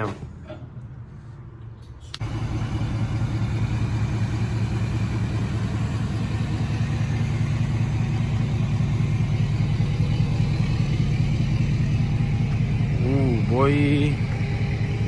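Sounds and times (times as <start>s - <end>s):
vehicle engine idling: 2.2s - 15.0s.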